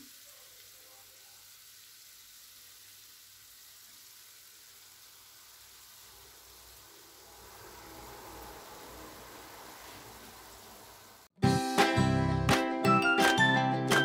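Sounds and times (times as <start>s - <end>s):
chicken sizzling in a pan: 0.0s - 11.3s.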